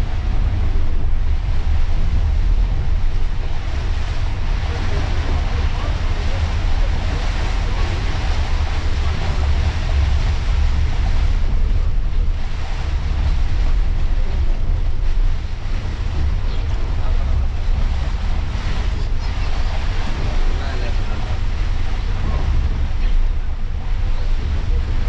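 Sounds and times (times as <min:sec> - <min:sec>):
bus engine and tyres rumbling: 0:00.0 - 0:25.0
rain hissing on windscreen: 0:00.0 - 0:25.0.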